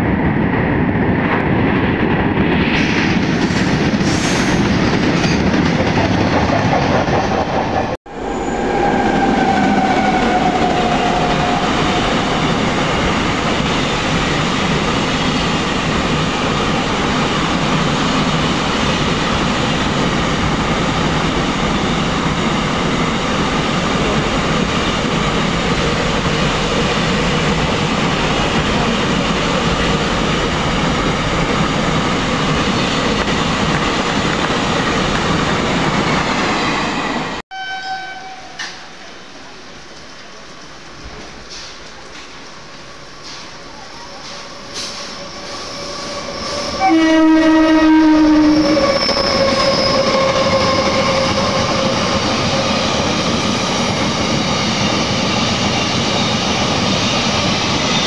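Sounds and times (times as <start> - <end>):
train wheels running on rails: 0.0 - 37.4, 39.8 - 46.8, 47.6 - 58.0.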